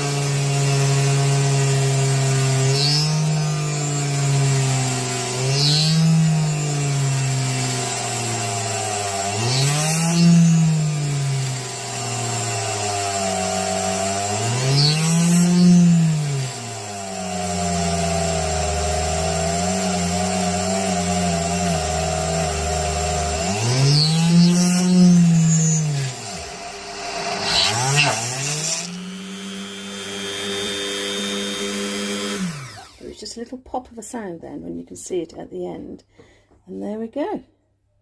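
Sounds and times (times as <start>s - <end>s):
electric drill motor whining: 0.0s - 33.2s.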